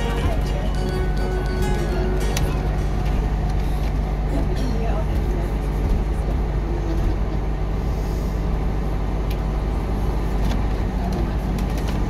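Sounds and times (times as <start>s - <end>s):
bus engine hum: 0.0s - 12.0s
bus rolling noise: 0.0s - 12.0s.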